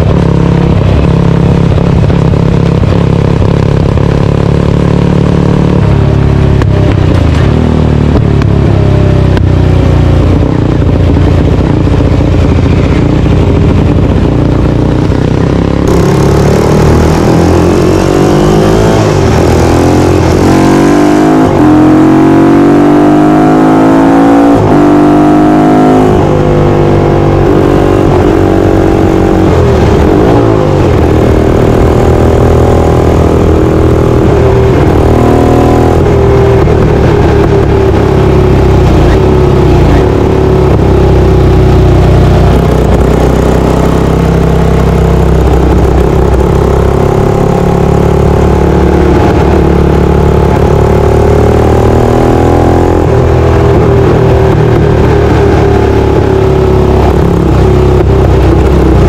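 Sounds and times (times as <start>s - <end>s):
racing engine revving: 10.3s - 59.0s.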